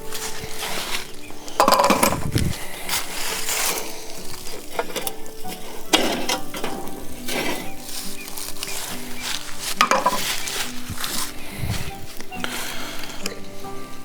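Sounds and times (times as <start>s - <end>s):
utensil scraping a pan: 0.0s - 14.0s.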